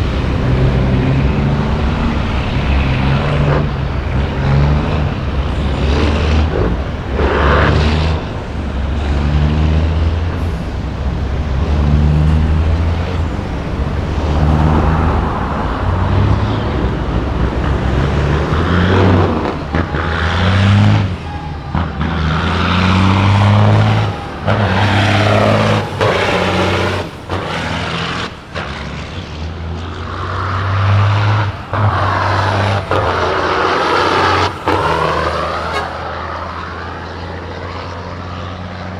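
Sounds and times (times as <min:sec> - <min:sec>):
truck diesel engines revving: 0:00.0 - 0:38.9.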